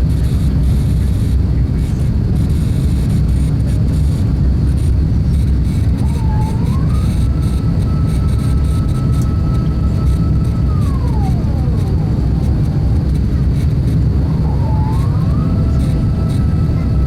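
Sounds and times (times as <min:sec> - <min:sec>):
airplane cabin rumble: 0:00.0 - 0:17.0
mechanical whine: 0:00.0 - 0:17.0.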